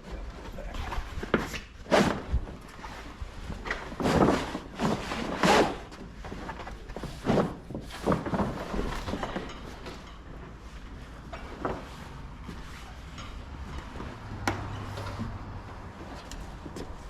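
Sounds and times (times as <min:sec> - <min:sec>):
canvas rustling and scraping: 0:00.0 - 0:17.0.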